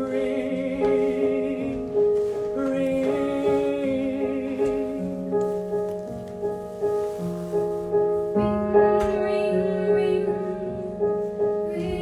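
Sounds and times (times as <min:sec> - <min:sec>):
piano playing repeated notes: 0:00.0 - 0:12.0.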